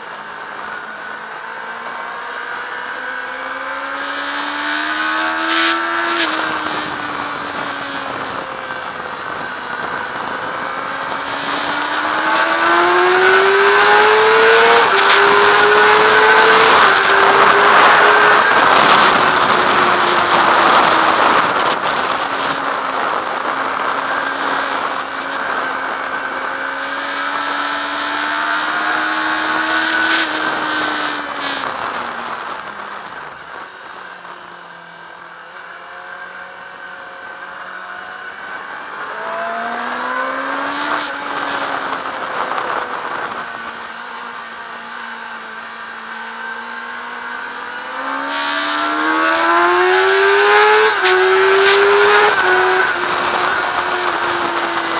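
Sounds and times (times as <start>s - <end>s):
motorcycle engine revving: 0.0s - 54.9s
wind rushing over microphone: 3.4s - 34.5s, 36.6s - 54.9s.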